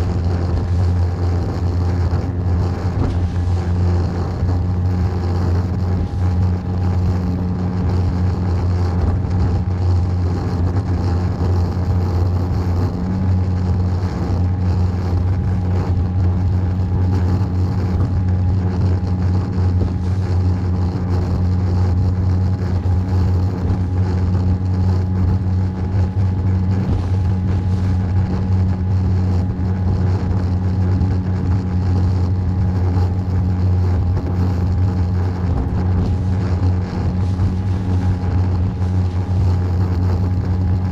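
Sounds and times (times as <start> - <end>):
boat engine droning: 0.0 - 40.9
faint steady whine: 0.0 - 40.9.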